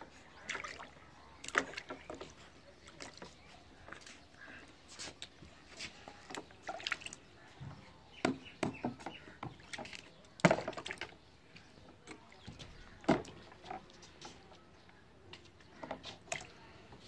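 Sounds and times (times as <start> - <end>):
baby splashing water: 0.2 - 4.6, 5.2 - 14.5.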